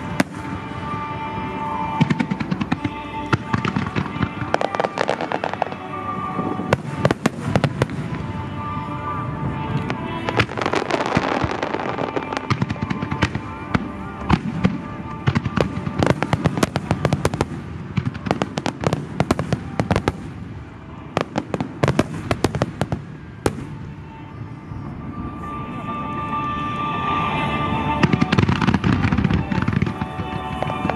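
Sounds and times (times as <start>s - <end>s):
fireworks bangs and crackles: 0.0s - 24.2s, 27.8s - 30.9s
music playing: 0.0s - 30.9s.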